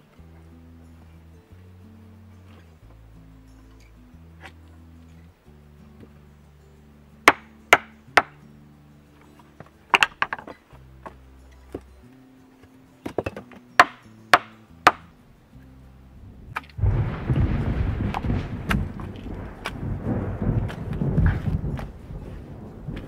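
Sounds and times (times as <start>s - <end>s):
soft background music: 0.0s - 23.0s.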